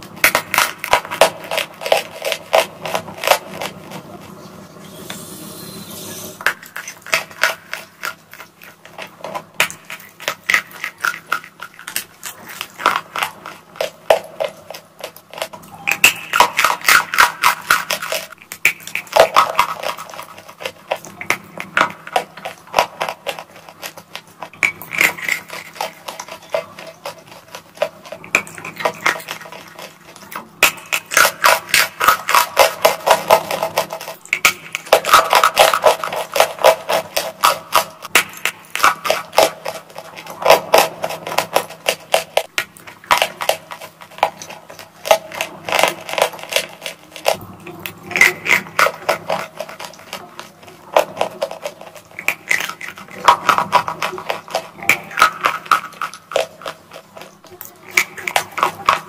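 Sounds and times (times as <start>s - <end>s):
crunching and chewing: 0.0s - 4.6s, 6.4s - 59.0s.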